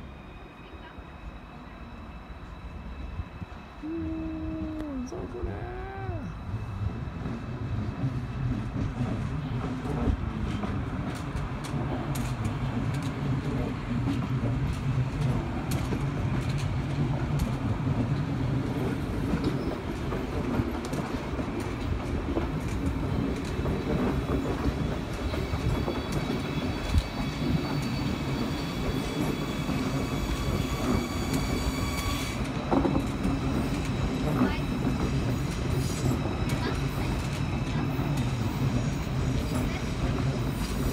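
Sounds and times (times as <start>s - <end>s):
train rumble passing: 0.0s - 40.9s.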